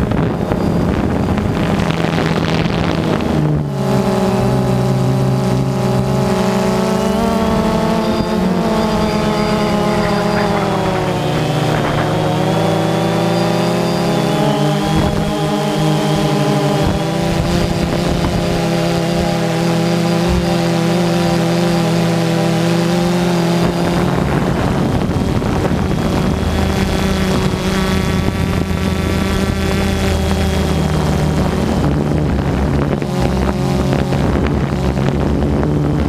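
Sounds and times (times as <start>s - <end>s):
drone propellers whirring: 0.0s - 36.0s.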